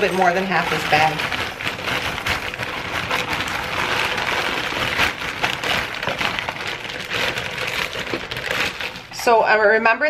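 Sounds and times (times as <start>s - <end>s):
frozen vegetables clattering into pot: 0.0s - 9.4s.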